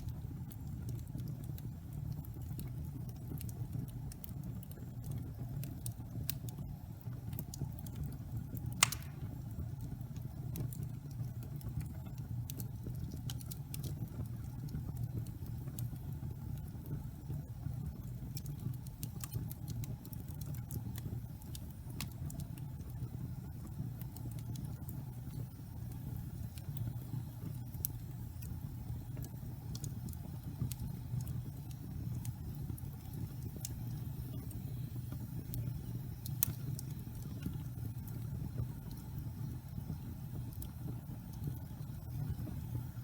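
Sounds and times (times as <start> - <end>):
fire rumbling: 0.0 - 43.0
wood crackling and popping: 0.0 - 43.0.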